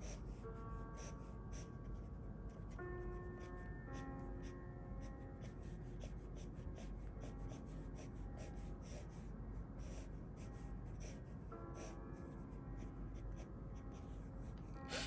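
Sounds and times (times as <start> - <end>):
pencil scratching on paper: 0.0 - 2.1, 4.2 - 12.0, 12.8 - 15.0.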